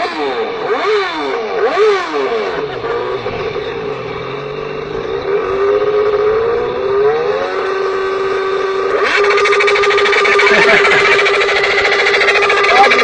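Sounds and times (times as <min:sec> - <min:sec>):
small motorized bicycle engine: 0:00.0 - 0:13.0.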